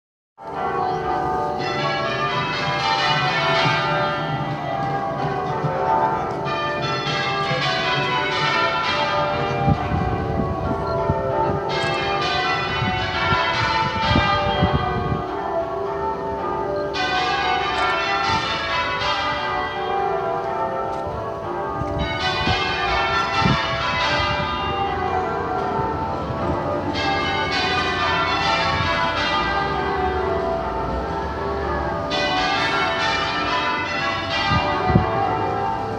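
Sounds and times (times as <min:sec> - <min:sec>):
church bells change ringing: 0:00.4 - 0:35.9.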